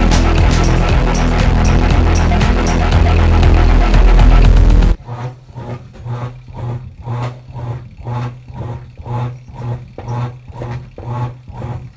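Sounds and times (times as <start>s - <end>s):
washing machine motor hum: 0.0s - 11.9s.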